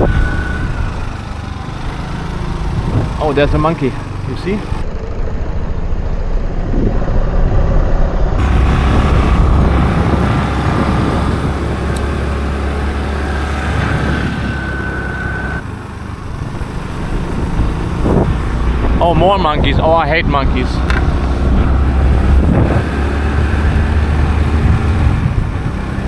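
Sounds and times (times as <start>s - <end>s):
motorbike engine running: 0.0s - 7.0s, 8.4s - 26.0s
wind rushing over microphone: 0.0s - 26.0s.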